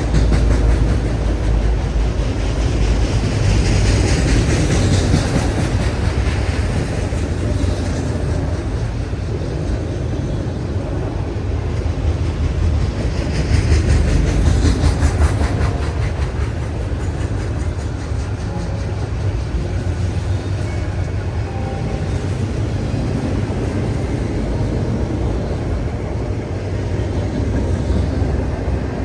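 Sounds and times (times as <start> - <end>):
train rumbling past: 0.0 - 29.0
wheels clicking on rail joints: 0.0 - 29.0.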